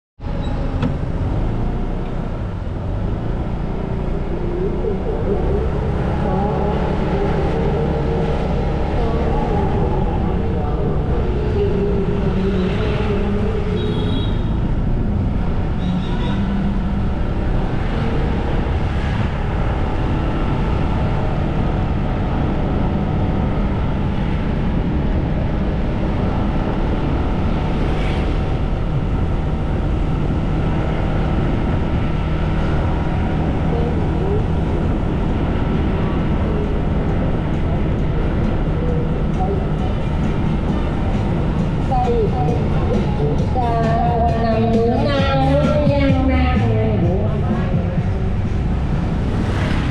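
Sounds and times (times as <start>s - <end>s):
wind and road noise: 0.2s - 49.9s.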